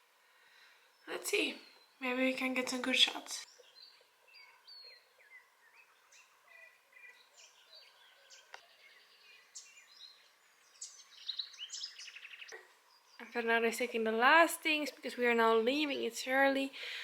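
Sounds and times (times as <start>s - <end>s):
birds chirping and trilling: 0.4s - 17.0s.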